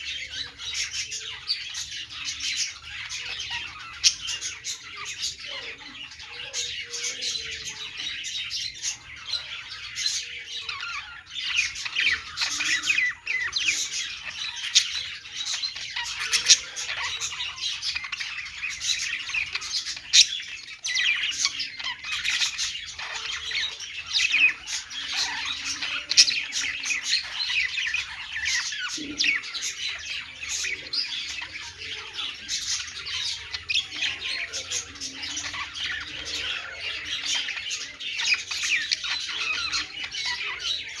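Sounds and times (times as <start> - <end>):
budgerigars chattering and chirping: 0.0 - 41.0.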